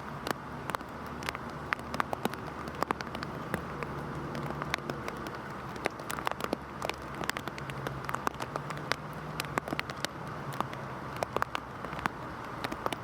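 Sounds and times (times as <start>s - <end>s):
heavy rain falling: 0.0s - 13.0s
raindrops striking close by: 0.0s - 13.0s.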